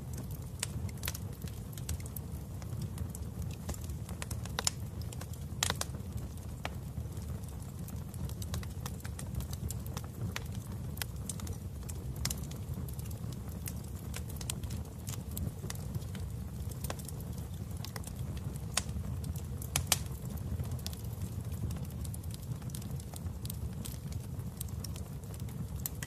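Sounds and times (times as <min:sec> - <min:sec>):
fire popping: 0:00.0 - 0:26.0
wood fire crackling: 0:00.0 - 0:26.0.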